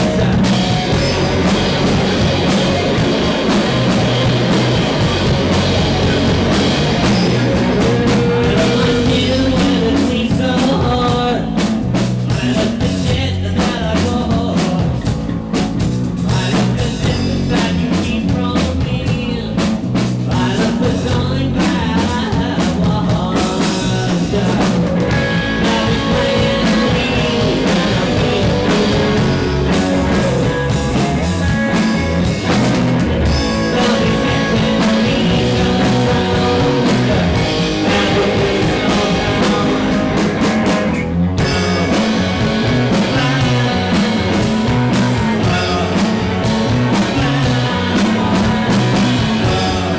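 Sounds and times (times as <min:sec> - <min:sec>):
man singing: 0:00.0 - 0:15.2, 0:16.2 - 0:49.9
distorted electric guitar: 0:00.0 - 0:49.9
drum kit: 0:00.0 - 0:49.9
electric bass: 0:00.0 - 0:49.9.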